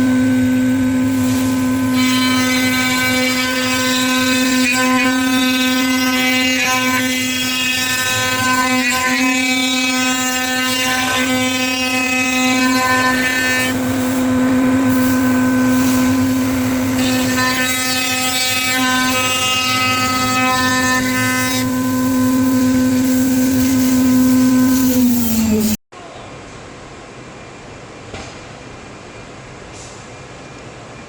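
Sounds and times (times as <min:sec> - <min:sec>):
machine spindle whine: 0:00.0 - 0:25.8.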